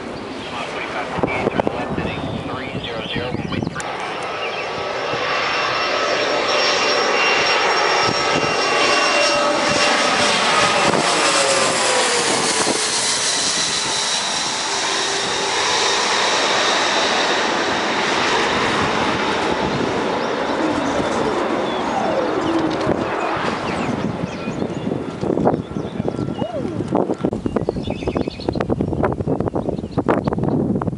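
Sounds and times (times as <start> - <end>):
jet passing low overhead: 0.0 - 30.9.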